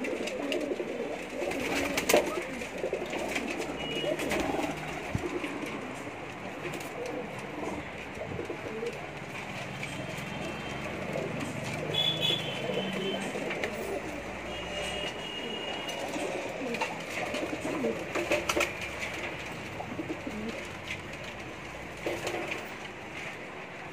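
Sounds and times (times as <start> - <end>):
pigeons cooing: 0.0 - 22.8.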